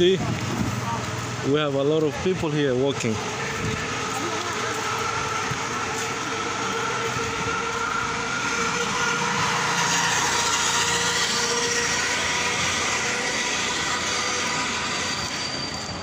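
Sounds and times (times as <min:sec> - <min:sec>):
street traffic din: 0:00.0 - 0:16.0
small engine driving past: 0:03.1 - 0:16.0.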